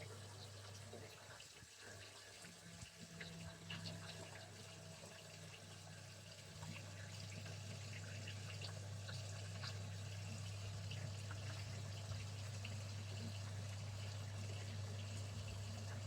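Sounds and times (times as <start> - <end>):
drips and splashes: 0.0 - 16.0
tap water running: 0.0 - 16.0.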